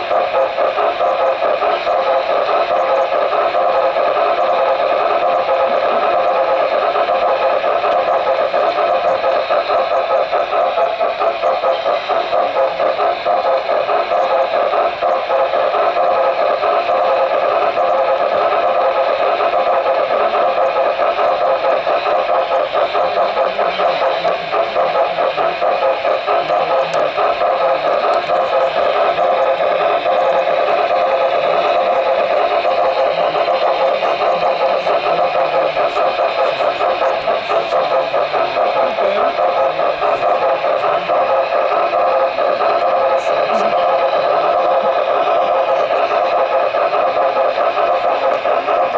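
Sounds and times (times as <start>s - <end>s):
model train wheels rattling: 0.0s - 48.9s.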